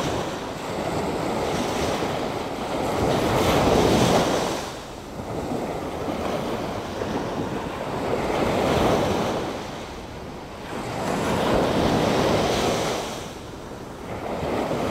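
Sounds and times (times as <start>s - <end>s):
ocean waves washing in: 0.0s - 14.9s.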